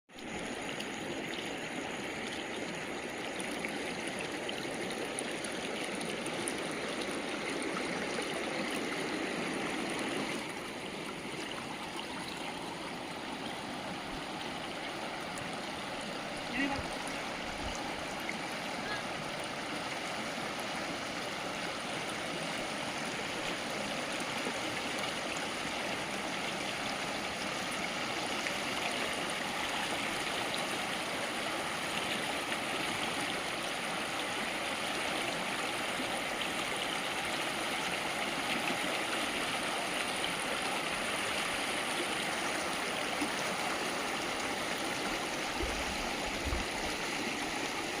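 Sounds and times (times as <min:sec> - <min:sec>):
running water rushing and gurgling: 0:00.1 - 0:48.0.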